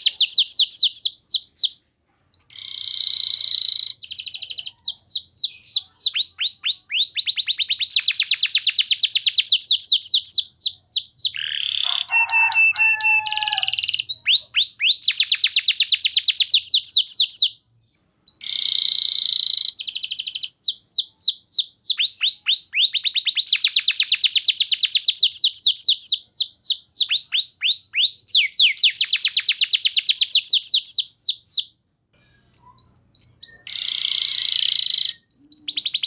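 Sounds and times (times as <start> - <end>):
canary singing trills: 0.0 - 17.6, 18.3 - 31.8, 32.4 - 36.0.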